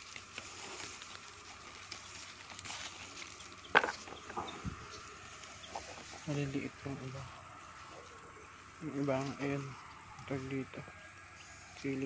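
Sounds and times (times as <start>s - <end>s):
leaves and stems rustling: 0.0s - 12.0s.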